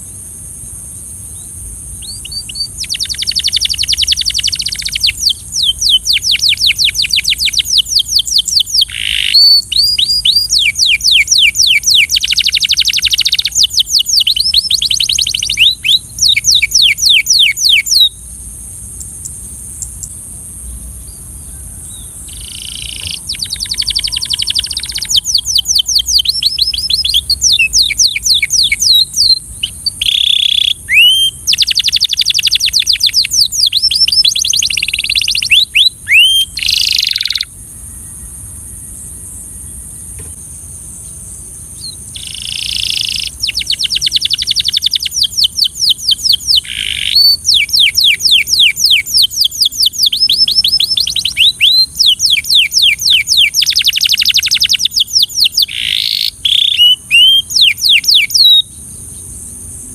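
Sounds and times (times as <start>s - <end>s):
canary singing trills: 1.1s - 38.4s, 41.8s - 59.9s.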